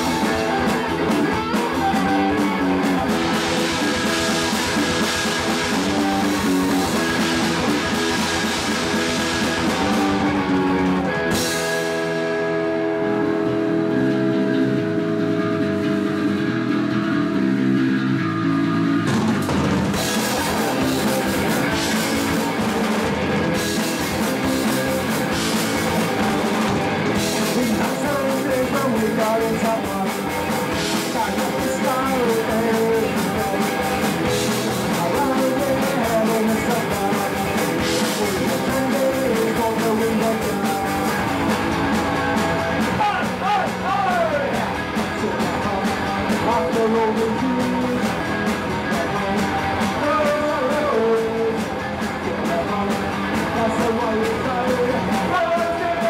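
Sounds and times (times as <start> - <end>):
drum kit with cymbal crashes: 0.0 - 12.6, 19.1 - 56.0
bass guitar: 0.0 - 56.0
distorted electric guitars: 0.0 - 56.0.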